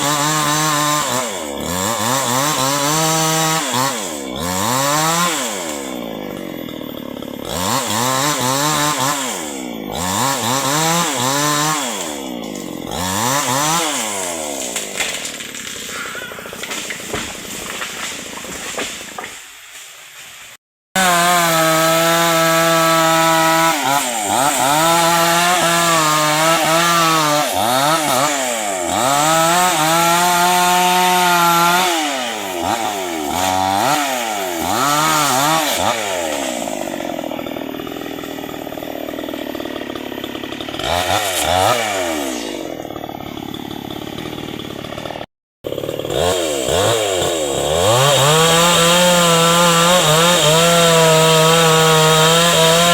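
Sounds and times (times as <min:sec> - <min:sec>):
chainsaw cutting hardwood: 0:00.0 - 0:52.9.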